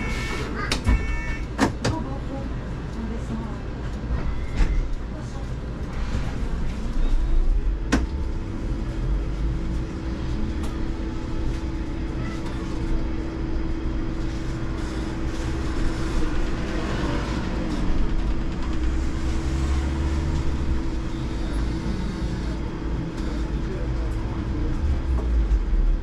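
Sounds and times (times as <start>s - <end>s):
trolleybus electric hum: 0.0s - 26.0s.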